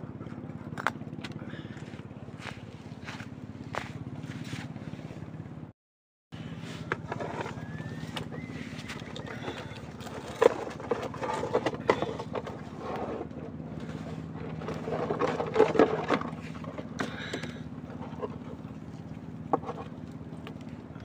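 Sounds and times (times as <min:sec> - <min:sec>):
engine humming: 0:00.0 - 0:05.7, 0:06.4 - 0:21.0.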